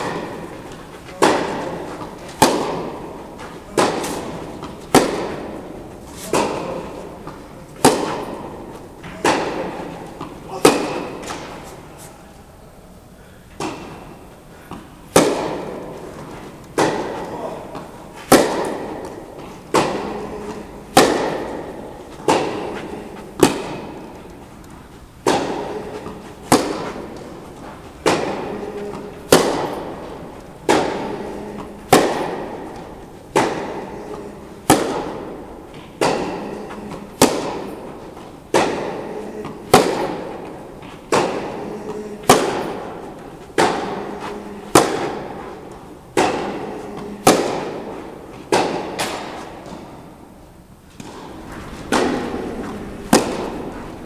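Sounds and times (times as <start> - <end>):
tennis balls struck by rackets: 0.0 - 12.0, 13.5 - 54.0.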